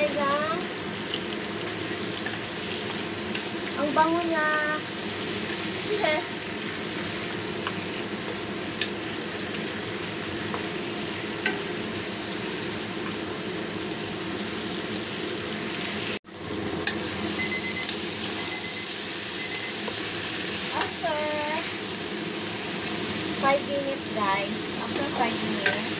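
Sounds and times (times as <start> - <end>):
food sizzling in a wok: 0.0 - 25.9.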